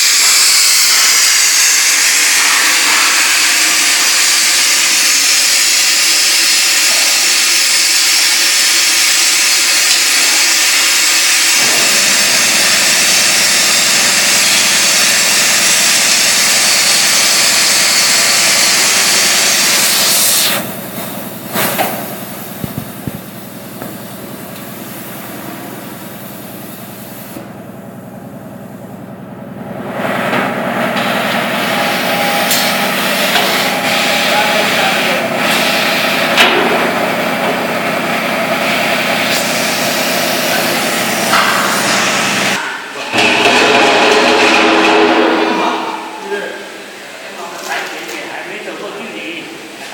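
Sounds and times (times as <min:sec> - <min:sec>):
duct forming machine hissing: 0:00.0 - 0:27.6, 0:29.9 - 0:47.3.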